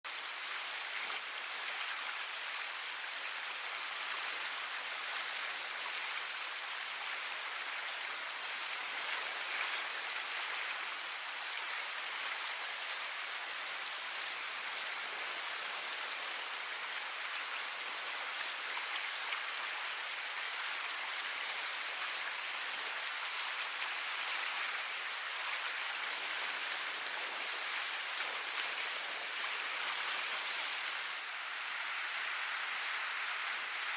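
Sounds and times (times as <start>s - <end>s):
rushing hiss of water: 0.0s - 33.9s.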